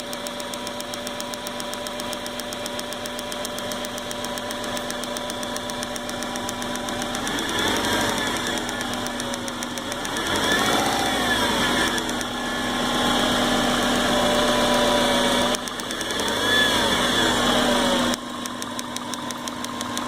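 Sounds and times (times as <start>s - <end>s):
engine running rough and misfiring: 0.0s - 20.0s.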